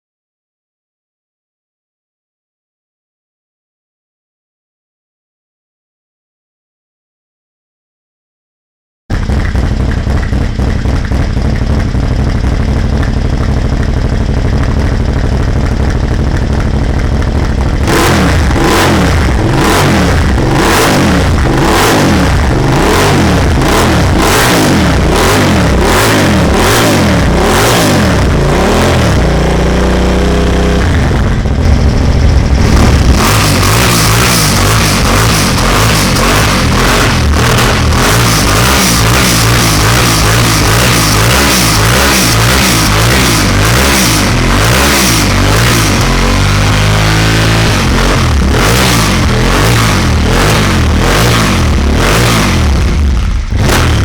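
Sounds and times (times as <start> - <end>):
motorcycle engine idling and revving: 9.1 - 54.0.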